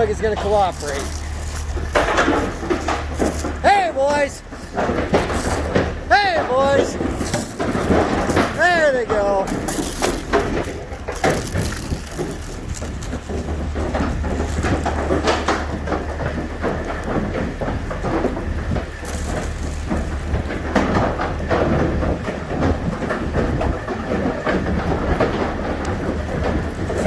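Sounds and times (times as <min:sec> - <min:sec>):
cattle hooves on metal floor: 0:00.0 - 0:27.0
steady low hum: 0:00.0 - 0:27.0.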